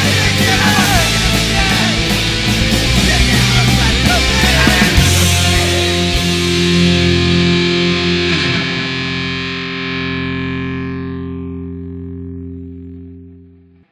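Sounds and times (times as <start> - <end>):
distorted electric guitar chord: 0.0 - 13.9.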